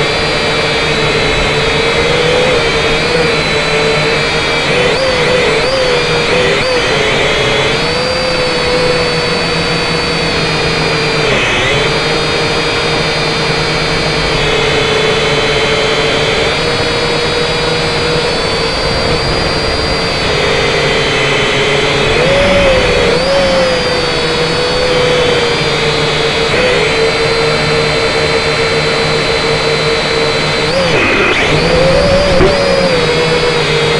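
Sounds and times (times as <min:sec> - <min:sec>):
drone propellers whining: 0:00.0 - 0:33.9.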